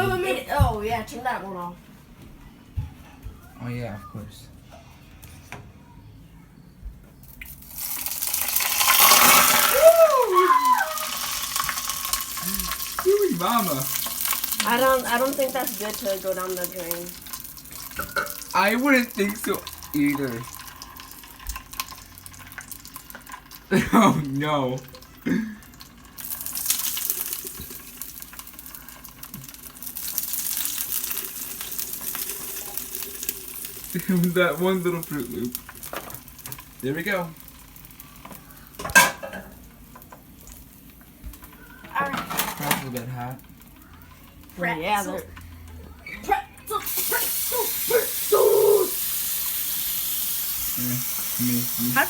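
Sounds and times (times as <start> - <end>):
hot oil sizzling in sink: 7.2 - 45.7, 46.7 - 52.0.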